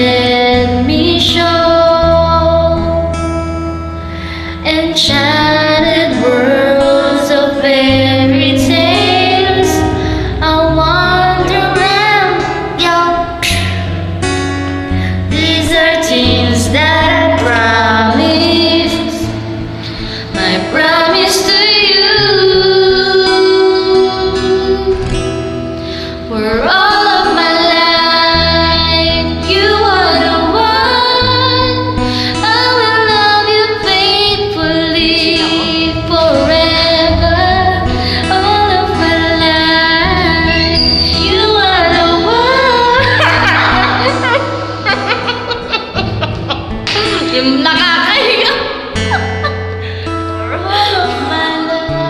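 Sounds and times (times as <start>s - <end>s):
woman singing love song: 0.0s - 3.2s, 4.6s - 13.9s, 15.1s - 19.4s, 20.2s - 25.1s, 26.3s - 45.2s, 50.4s - 52.0s
karaoke backing track: 0.0s - 52.0s.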